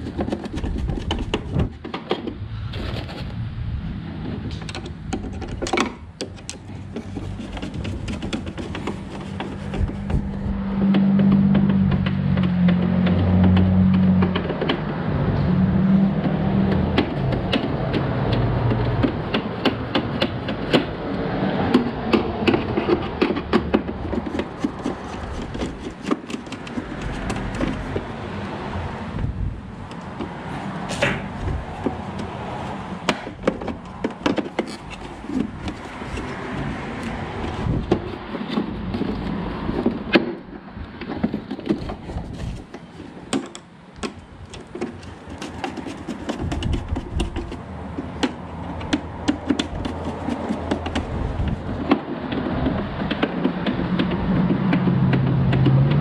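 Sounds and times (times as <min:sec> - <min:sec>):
plastic parts knocking and clicking: 0:00.0 - 0:02.4, 0:04.2 - 0:15.2, 0:16.0 - 0:28.4, 0:29.2 - 0:56.0.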